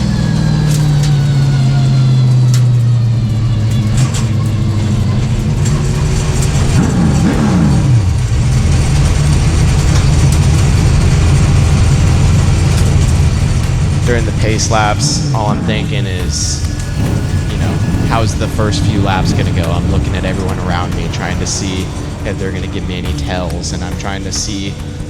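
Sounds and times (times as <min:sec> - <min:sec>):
second engine note rising and falling: 0:00.0 - 0:25.0
stock car engine running: 0:00.0 - 0:25.0.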